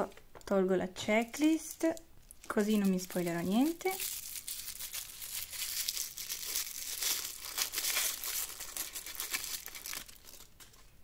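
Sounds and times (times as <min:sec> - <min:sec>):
wrapper crinkling: 0:01.9 - 0:11.0.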